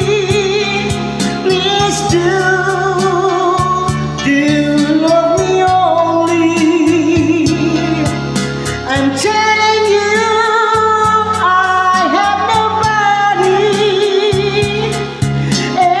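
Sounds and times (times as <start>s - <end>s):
man singing a ballad: 0.0s - 8.2s, 8.8s - 16.0s
instrumental backing track: 0.0s - 16.0s.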